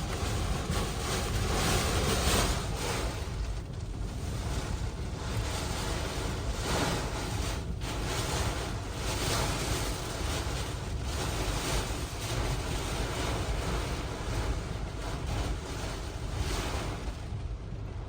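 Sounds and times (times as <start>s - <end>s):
hurricane winds gusting: 0.0s - 18.0s.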